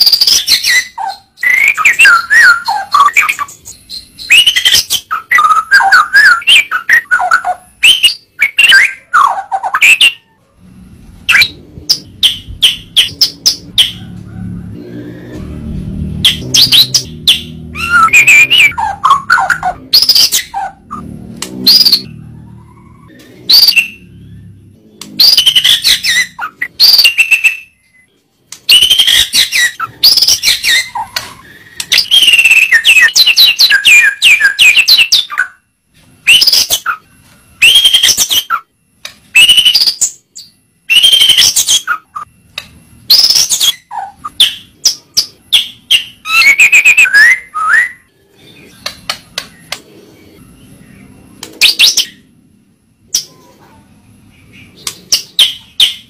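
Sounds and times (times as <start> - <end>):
songbird whistles and trills: 0.0 - 10.4, 11.3 - 14.0, 16.2 - 35.6, 36.2 - 52.3, 54.3 - 56.0.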